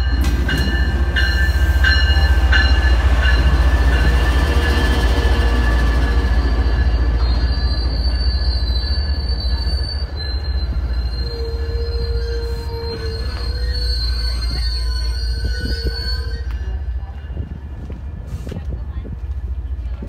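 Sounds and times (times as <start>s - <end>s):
train wheels squealing: 0.0s - 17.0s
low train rumble: 0.0s - 20.0s.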